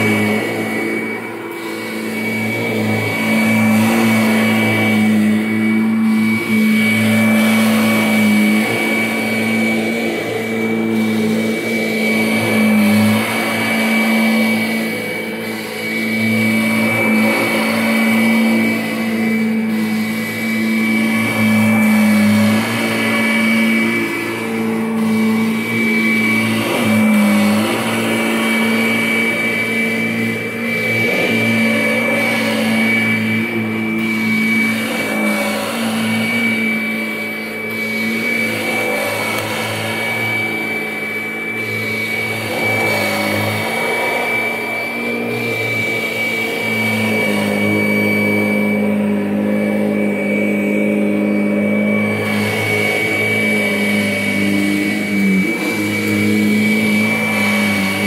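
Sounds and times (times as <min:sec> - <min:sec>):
vacuum cleaner running on carpet: 0:00.0 - 0:58.0.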